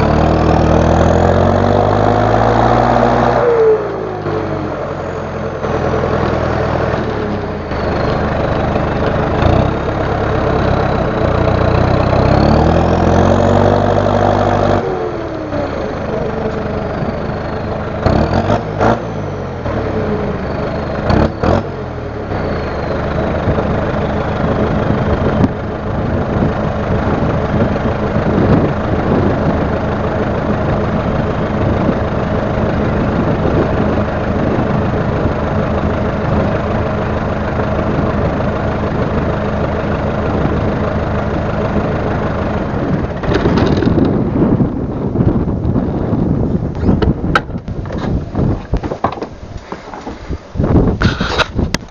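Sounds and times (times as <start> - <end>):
tractor diesel engine idling: 0.0 - 51.9.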